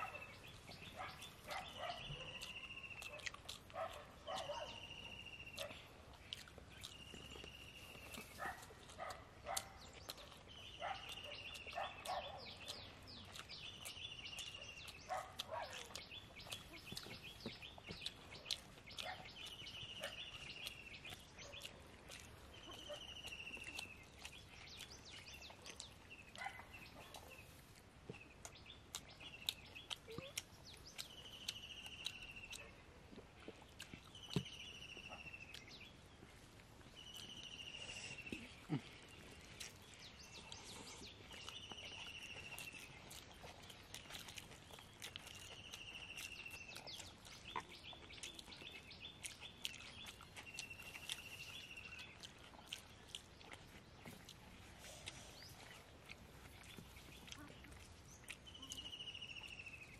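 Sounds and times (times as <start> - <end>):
people eating crunches: 0.0 - 59.9.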